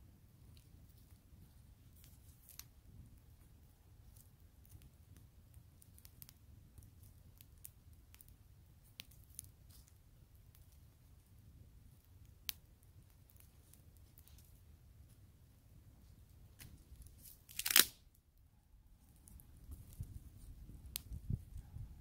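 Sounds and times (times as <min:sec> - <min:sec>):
wood fire crackling and popping: 0:00.3 - 0:15.4, 0:16.2 - 0:18.2, 0:19.1 - 0:21.6.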